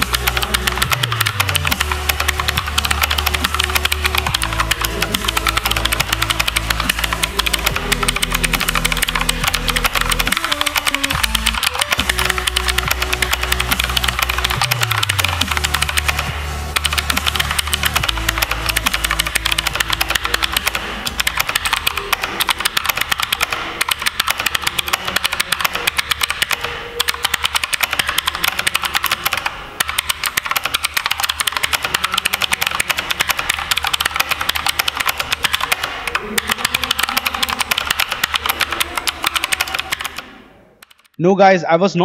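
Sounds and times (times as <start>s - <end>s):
mechanical keyboard typing: 0.0s - 41.2s.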